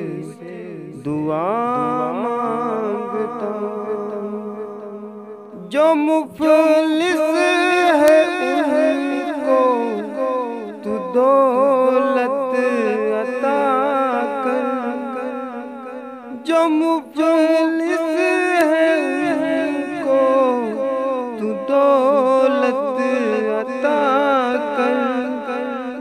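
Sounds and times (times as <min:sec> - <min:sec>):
man singing a cappella: 0:00.0 - 0:26.0.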